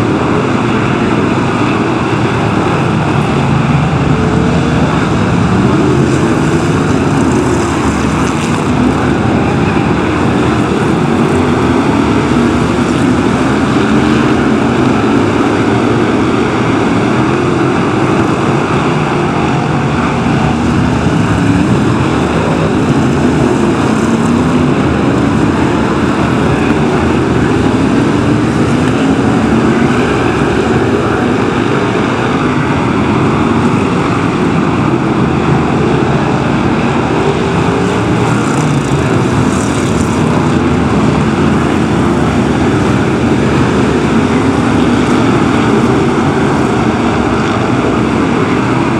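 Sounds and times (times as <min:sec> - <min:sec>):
racing car engines revving: 0:00.0 - 0:48.9.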